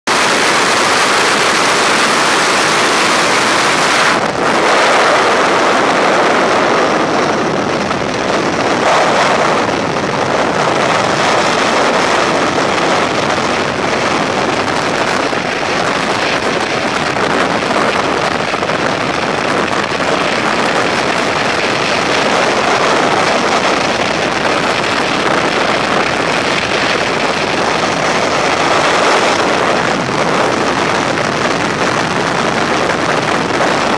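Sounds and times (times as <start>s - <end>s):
freefall wind rushing: 0.0s - 33.9s.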